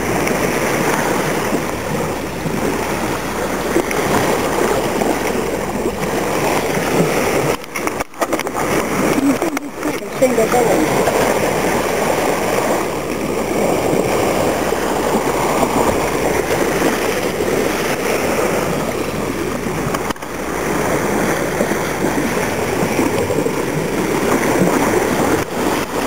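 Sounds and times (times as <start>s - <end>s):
water rushing along boat bow: 0.0s - 26.0s.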